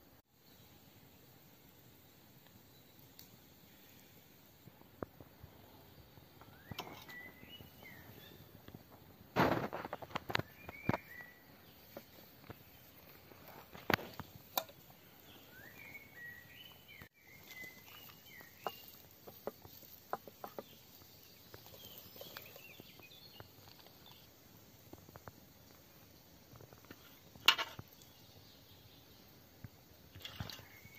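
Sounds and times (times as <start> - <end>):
birds chirping: 2.6 - 30.9.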